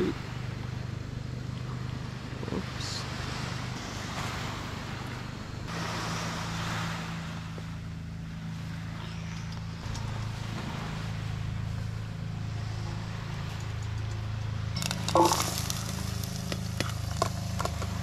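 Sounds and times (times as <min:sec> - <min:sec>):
gas stove burning rumble: 0:00.0 - 0:18.0.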